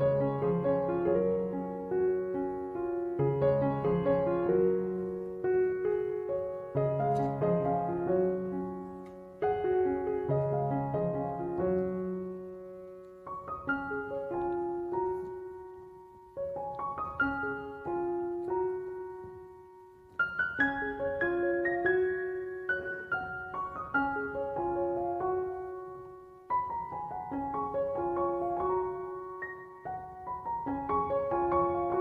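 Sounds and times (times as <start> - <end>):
gentle piano melody: 0.0 - 32.0.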